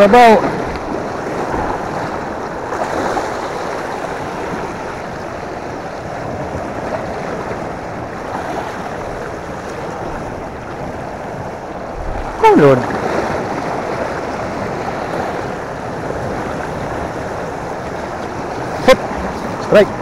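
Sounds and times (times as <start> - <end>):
surf washing on rocky shore: 0.0 - 20.0.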